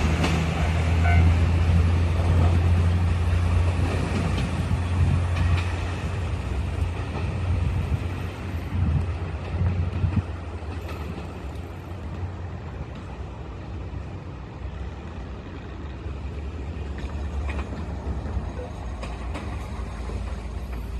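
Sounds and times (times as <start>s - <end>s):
trains rumbling: 0.0s - 20.9s.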